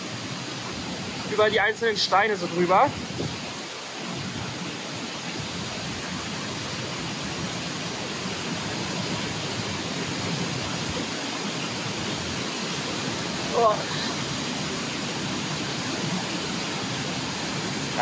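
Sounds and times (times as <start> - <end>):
stream running over stones: 0.0 - 18.0
waterfall: 0.0 - 18.0.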